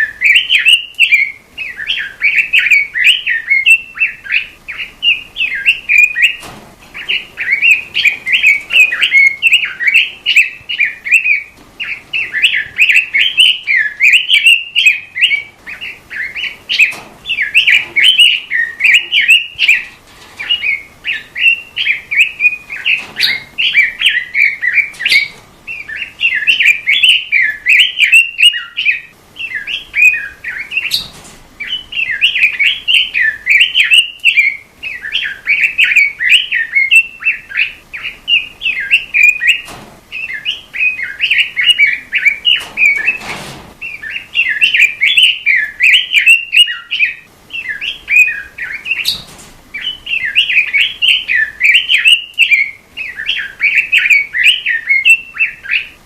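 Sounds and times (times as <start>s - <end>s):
robin singing: 0.0s - 56.0s.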